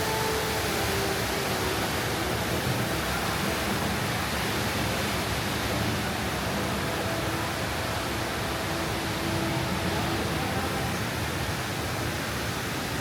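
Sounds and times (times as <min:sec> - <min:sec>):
indoor waterfall rushing: 0:00.0 - 0:13.0.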